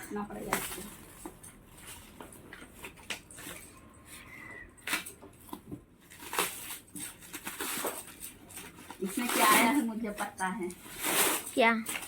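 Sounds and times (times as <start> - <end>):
wrapping crinkling and rustling: 0.0 - 12.0.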